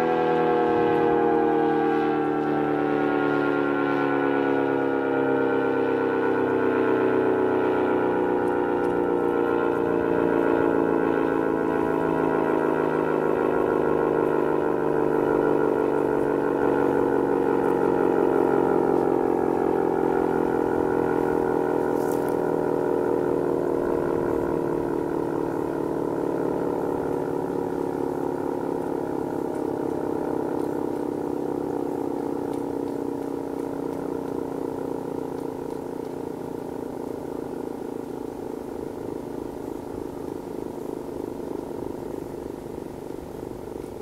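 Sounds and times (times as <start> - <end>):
warning siren winding down: 0.0 - 44.0.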